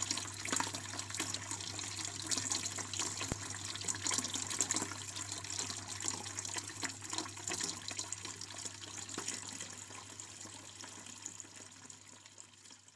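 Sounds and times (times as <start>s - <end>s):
fountain water splashing into basin: 0.0s - 11.7s.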